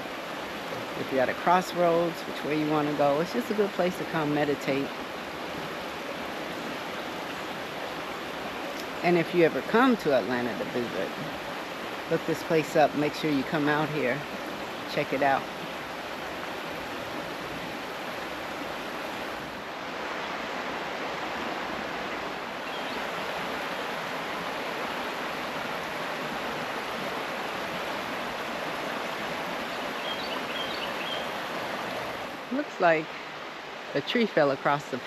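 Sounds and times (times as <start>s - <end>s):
creek water rushing over rocks: 0.0s - 35.0s.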